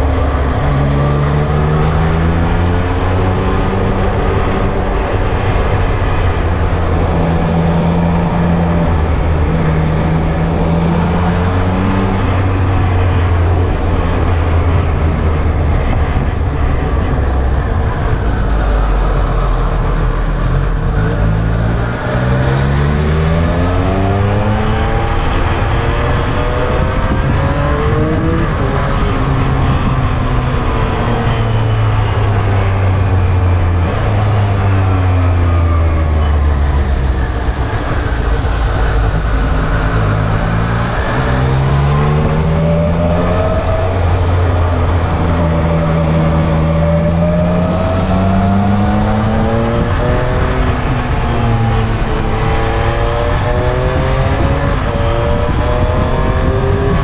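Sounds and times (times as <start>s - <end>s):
road noise: 0.0s - 57.0s
rushing wind: 0.0s - 57.0s.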